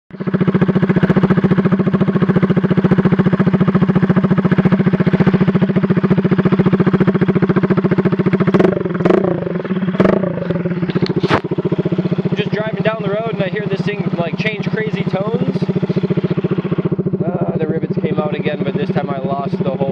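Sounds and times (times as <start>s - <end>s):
scooter engine running loudly: 0.1s - 19.9s.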